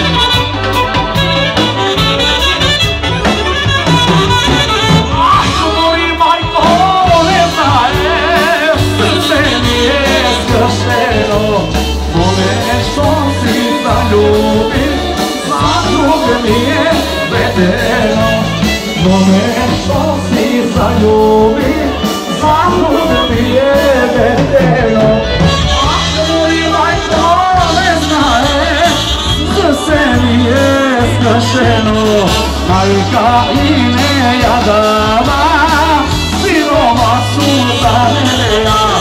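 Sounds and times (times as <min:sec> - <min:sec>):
live band playing folk dance music: 0:00.0 - 0:39.0
steady bass line: 0:00.0 - 0:39.0.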